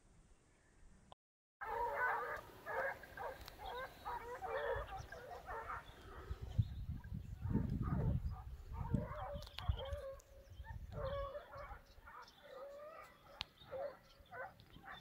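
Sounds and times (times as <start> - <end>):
hounds baying: 1.6 - 6.6, 7.4 - 15.0.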